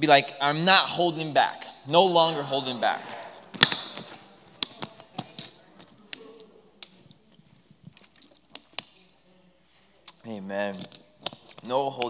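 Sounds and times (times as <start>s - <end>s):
faint murmur of a congregation: 0.0s - 12.0s.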